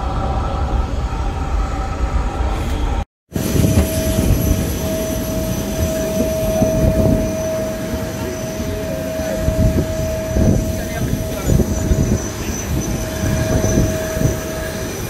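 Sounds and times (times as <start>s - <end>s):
jet aircraft high whine: 0.0s - 15.0s.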